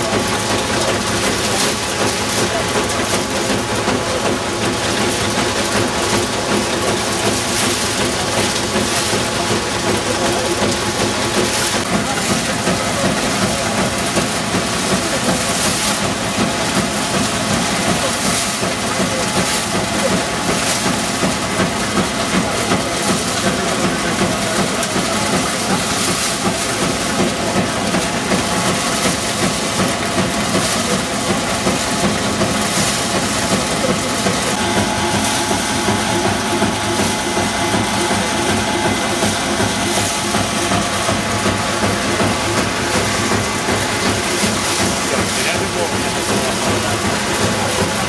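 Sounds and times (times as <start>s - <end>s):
threshing machine hum and rattle: 0.0s - 48.0s.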